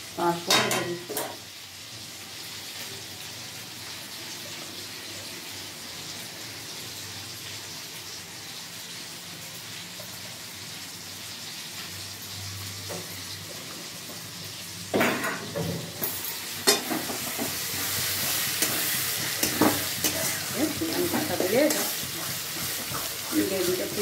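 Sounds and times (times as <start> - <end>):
spices sizzling in oil: 0.0 - 24.0.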